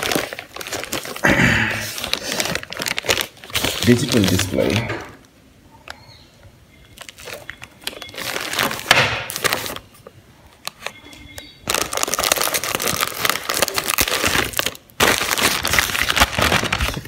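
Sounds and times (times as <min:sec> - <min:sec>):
plastic bag crinkling: 0:00.0 - 0:05.2, 0:06.9 - 0:17.0.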